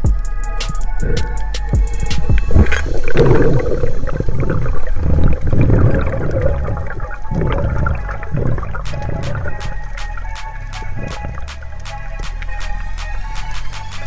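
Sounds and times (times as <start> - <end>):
underwater rushing and bubbling: 0.0 - 14.0.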